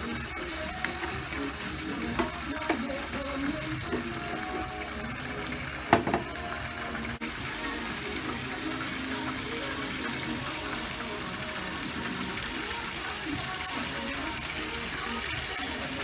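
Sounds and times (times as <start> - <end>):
sauce simmering in a frying pan: 0.0 - 16.0.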